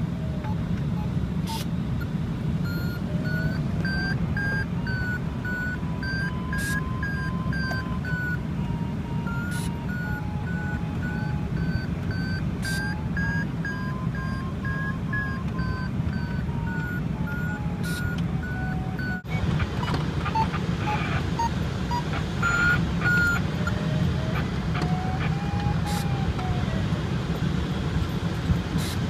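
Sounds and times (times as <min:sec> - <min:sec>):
variometer beeping: 0:00.3 - 0:26.8
rushing airflow noise: 0:01.2 - 0:29.0.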